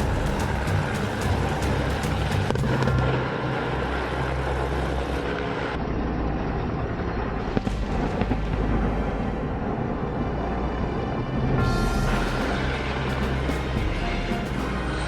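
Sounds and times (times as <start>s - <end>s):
low rumbling vehicle noise: 0.0s - 15.0s.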